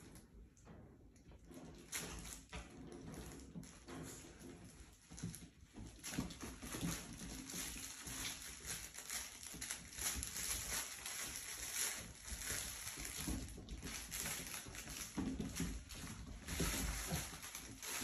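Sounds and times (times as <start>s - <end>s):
paws scuffling with plush toys: 1.5s - 18.0s.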